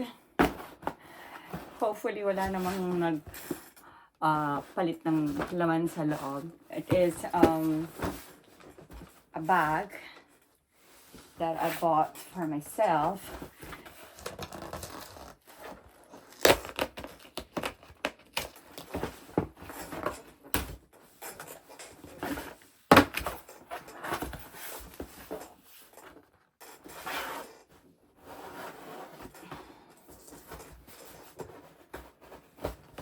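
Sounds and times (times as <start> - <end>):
cardboard parcel rustling: 4.4 - 33.0.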